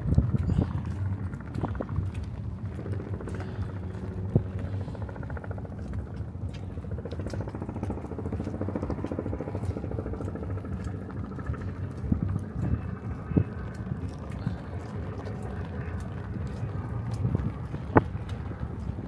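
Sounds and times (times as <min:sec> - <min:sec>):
fast engine-like pulsing: 0:00.0 - 0:19.0
road traffic hum: 0:00.0 - 0:19.0.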